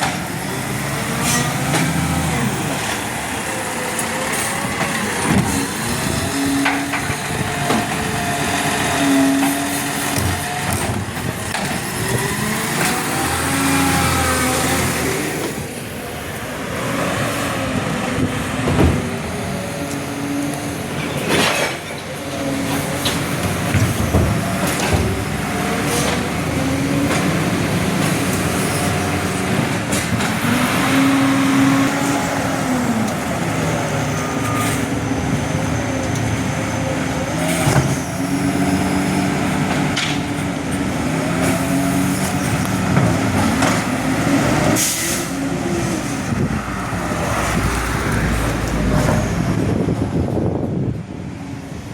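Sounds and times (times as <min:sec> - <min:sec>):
garbage truck engine revving: 0:00.0 - 0:51.9.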